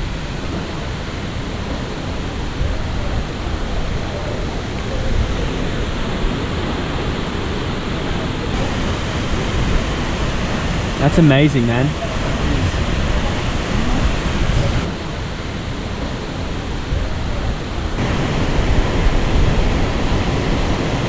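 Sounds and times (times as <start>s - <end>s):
heavy rain: 0.0s - 21.0s
waterfall rushing: 0.0s - 21.0s.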